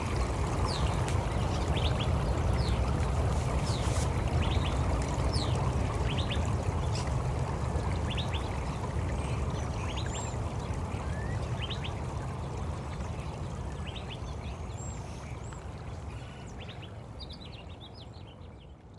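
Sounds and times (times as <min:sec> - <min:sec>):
birds chirping: 0:00.0 - 0:18.8
rushing water: 0:00.0 - 0:18.9.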